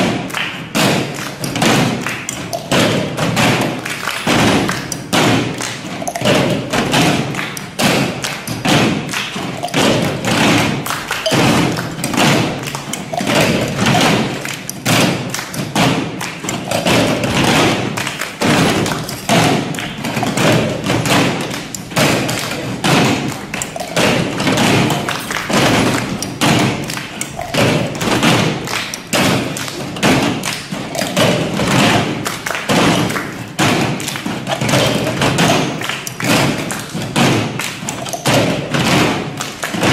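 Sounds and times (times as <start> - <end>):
cups knocked on tabletop: 0.0 - 39.9
hand claps: 0.0 - 39.9.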